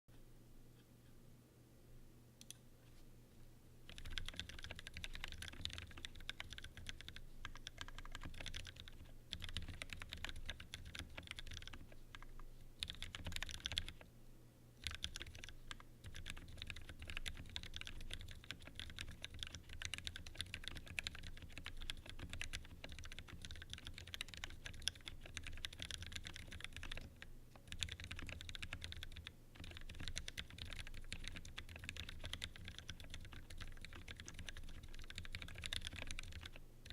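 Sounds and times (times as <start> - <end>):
mechanical keyboard keystroke clacks: 3.9 - 14.0, 16.1 - 36.9.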